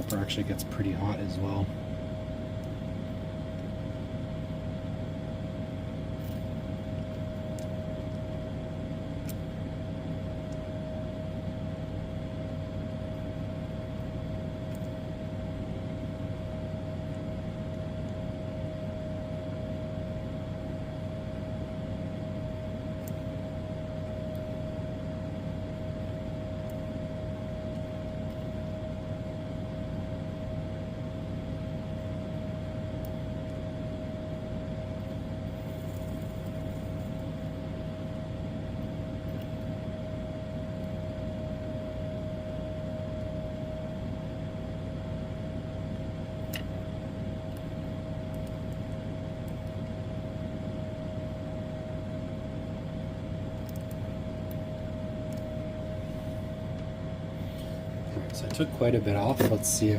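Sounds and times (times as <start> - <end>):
machine hum: 0.0 - 59.9
mid-pitched whine: 0.0 - 59.9.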